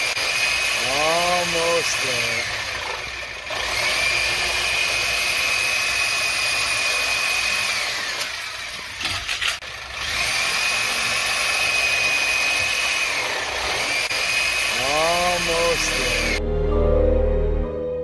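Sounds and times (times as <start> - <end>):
reciprocating saw cutting wood: 0.0 - 9.0, 9.6 - 16.4.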